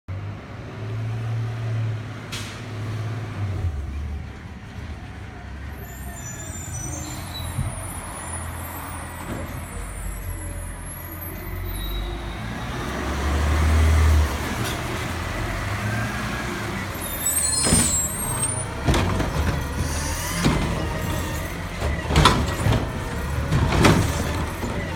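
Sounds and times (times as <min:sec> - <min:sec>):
garbage truck diesel engine rumbling: 0:00.2 - 0:24.9.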